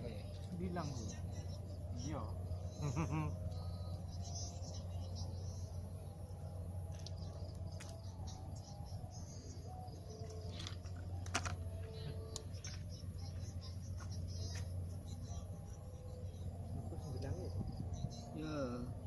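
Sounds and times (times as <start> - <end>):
faint high chirping calls: 0.0 - 19.0
low steady hum: 0.0 - 19.0.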